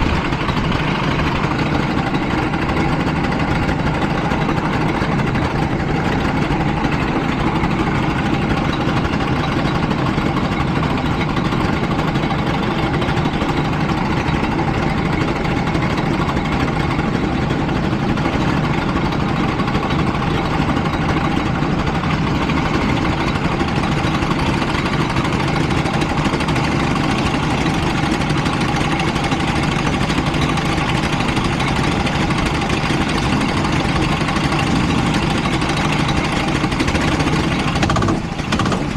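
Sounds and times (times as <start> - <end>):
go-kart engine idling: 0.0 - 38.9.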